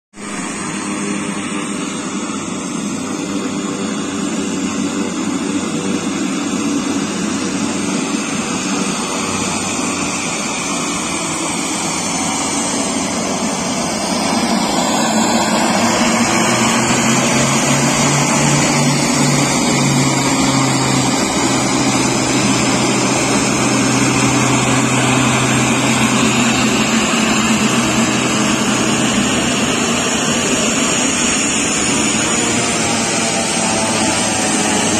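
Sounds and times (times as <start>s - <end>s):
turboprop engines running: 0.2s - 34.9s.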